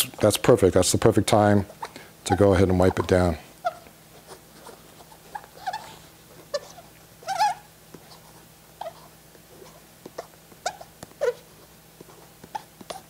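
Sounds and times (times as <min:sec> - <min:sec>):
fingertip squeaking on coating: 0:01.6 - 0:13.0.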